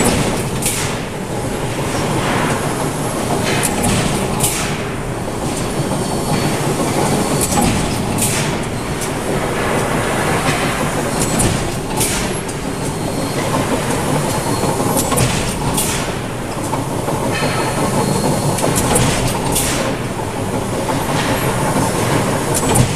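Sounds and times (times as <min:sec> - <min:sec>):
forging press mechanical rumble: 0:00.0 - 0:22.9.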